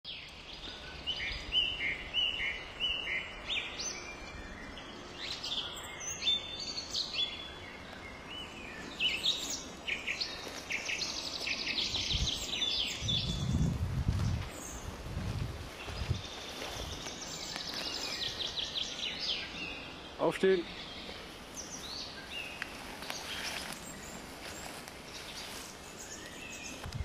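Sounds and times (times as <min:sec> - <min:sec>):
songbirds singing: 0:00.0 - 0:27.0
faint steady hiss: 0:00.1 - 0:27.0.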